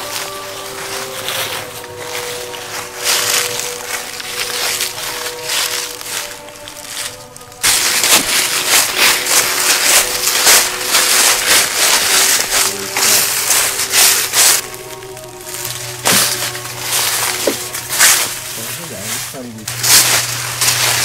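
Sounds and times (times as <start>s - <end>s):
footsteps crunching through dry leaves: 0.0s - 21.0s.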